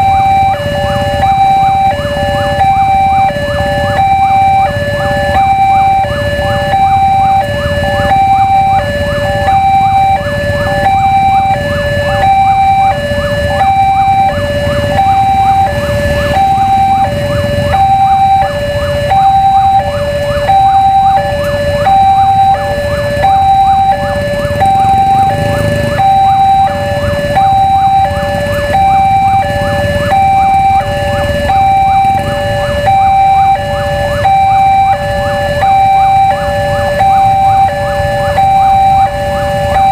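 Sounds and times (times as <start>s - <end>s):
level-crossing two-tone alarm: 0.0s - 39.9s
low rumble of traffic: 0.0s - 39.9s.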